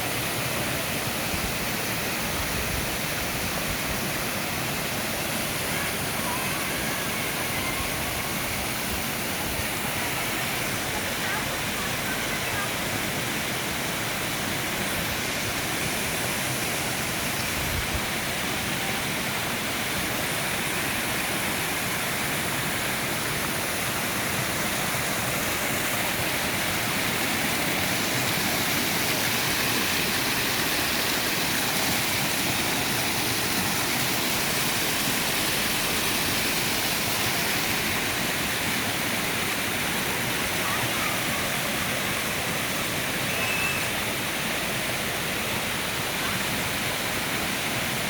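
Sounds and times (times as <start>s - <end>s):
water rushing: 0.0s - 48.0s.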